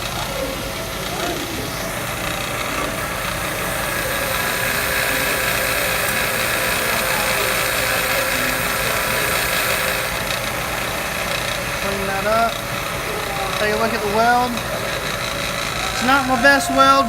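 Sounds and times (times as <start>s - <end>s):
machine running with hum: 0.0s - 17.0s.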